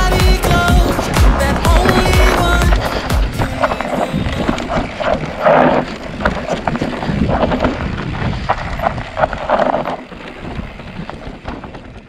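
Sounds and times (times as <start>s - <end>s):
bike parts rattling: 0.0s - 12.0s
bike tyres clattering over stones: 0.0s - 12.0s
wind buffeting microphone: 0.2s - 12.0s.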